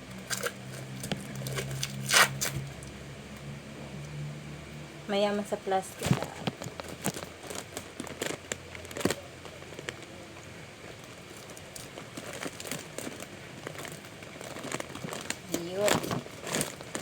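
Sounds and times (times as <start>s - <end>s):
plastic wrapping crinkling: 0.1s - 3.0s, 5.9s - 17.0s.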